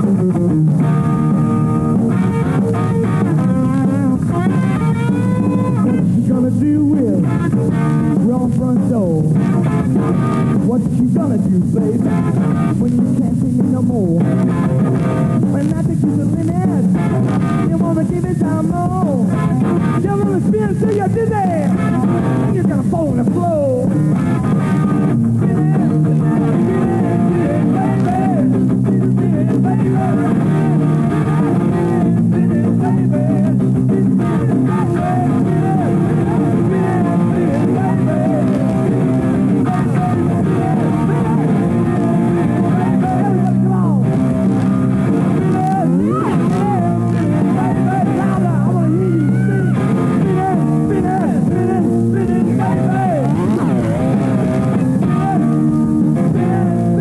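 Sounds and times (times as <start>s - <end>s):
lead guitar with bent notes: 0.0s - 57.0s
sustained rock chords: 0.0s - 57.0s.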